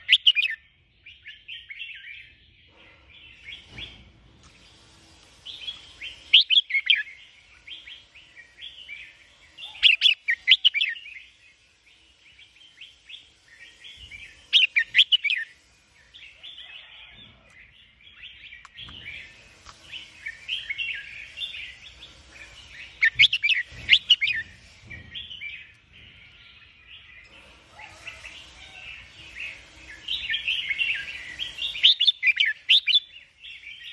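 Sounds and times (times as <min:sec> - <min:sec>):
bird chirping and singing: 0:00.0 - 0:33.9.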